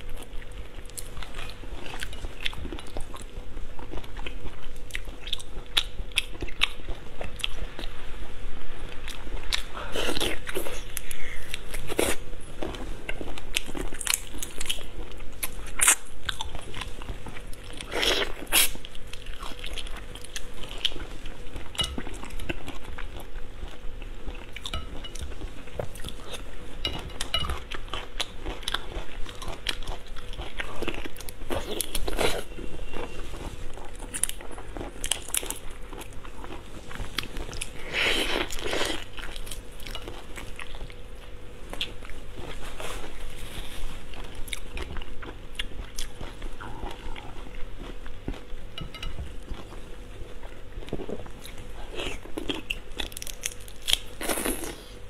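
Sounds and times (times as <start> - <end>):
person chewing with wet clicks: 0.0 - 8.0, 9.0 - 42.6, 44.2 - 55.0.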